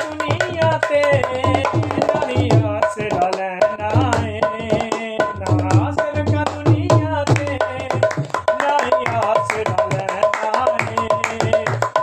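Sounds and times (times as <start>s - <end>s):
hand drum beating: 0.0s - 12.0s
man singing devotional song: 0.0s - 12.0s.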